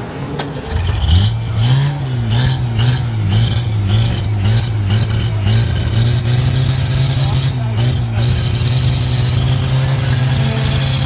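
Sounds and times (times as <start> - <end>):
racing car engine revving: 0.1 - 11.0.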